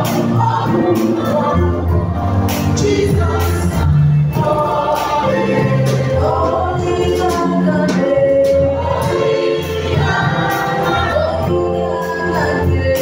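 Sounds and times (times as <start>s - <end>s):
choir singing gospel: 0.0s - 13.0s
low bass notes: 0.0s - 13.0s.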